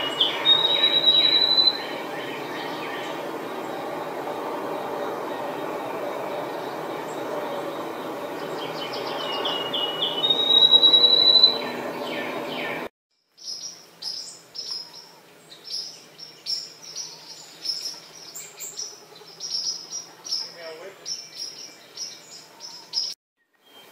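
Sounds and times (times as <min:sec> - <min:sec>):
sparrow song with fast trill: 0:00.0 - 0:03.7, 0:06.4 - 0:23.9.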